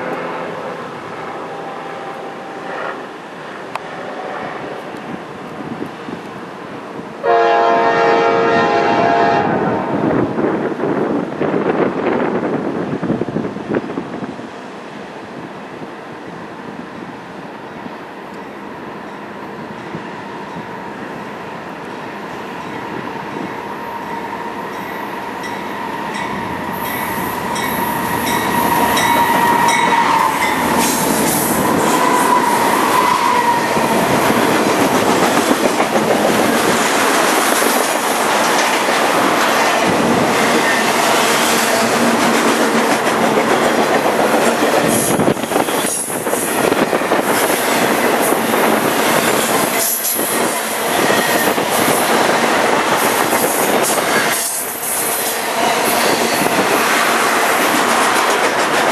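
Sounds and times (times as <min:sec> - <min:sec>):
diesel locomotives passing: 0:00.0 - 0:58.9.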